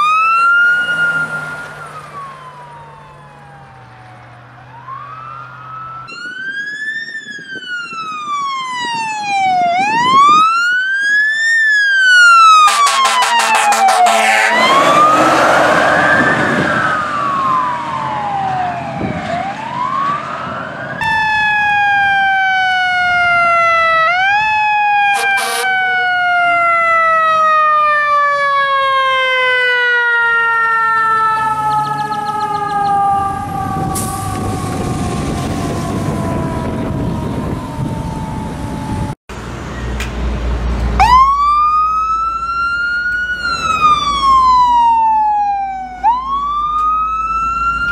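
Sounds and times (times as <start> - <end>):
fire truck siren wailing: 0.0 - 39.2, 40.8 - 47.9
siren starting up: 0.0 - 39.2, 41.0 - 47.9
mechanical siren winding down: 0.0 - 40.0, 41.0 - 47.9.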